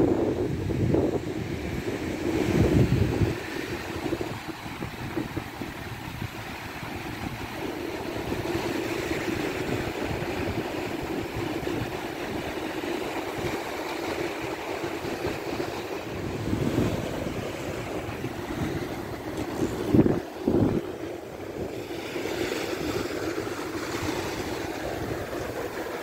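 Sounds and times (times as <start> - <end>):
sea waves breaking on beach: 0.0 - 26.0
wind buffeting microphone: 0.0 - 26.0.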